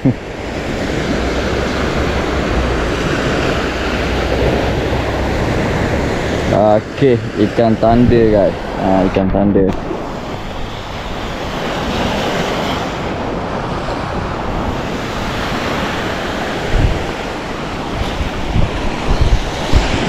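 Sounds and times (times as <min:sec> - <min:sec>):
sea surf washing: 0:00.0 - 0:20.0
wind buffeting microphone: 0:00.0 - 0:20.0.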